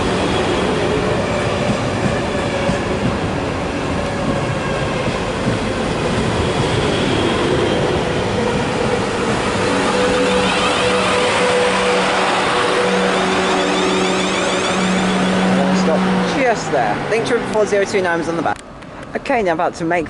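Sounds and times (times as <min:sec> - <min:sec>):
train wheels rumbling on rail: 0:00.0 - 0:19.2.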